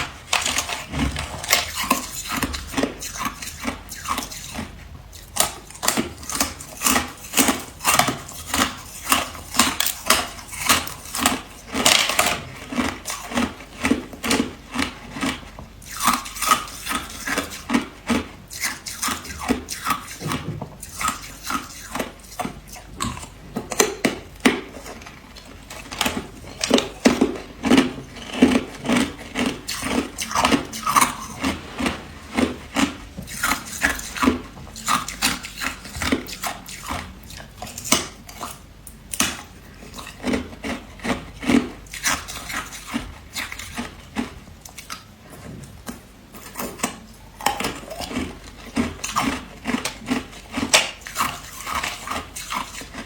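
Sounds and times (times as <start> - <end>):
person chewing ice: 0.0 - 53.0.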